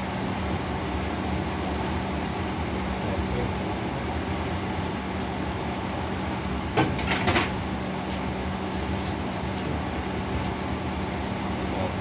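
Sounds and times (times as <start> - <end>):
exhaust hood humming drone: 0.0 - 12.0.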